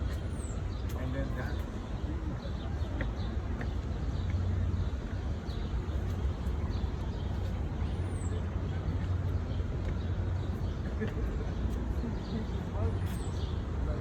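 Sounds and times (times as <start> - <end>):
distant city traffic rumbling: 0.0 - 14.0.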